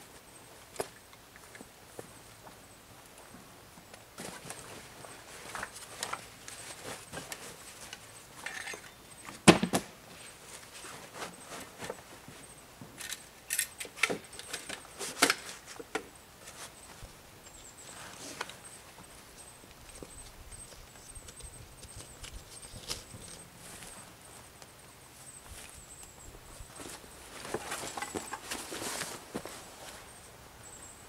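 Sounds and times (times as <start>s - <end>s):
rustling of packs and straps: 3.9s - 9.5s, 10.1s - 30.3s.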